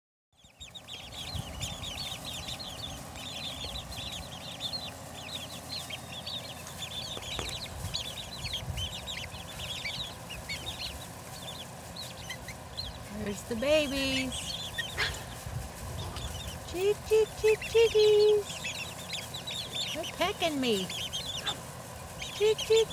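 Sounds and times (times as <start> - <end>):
chicks peeping: 0.4 - 22.9.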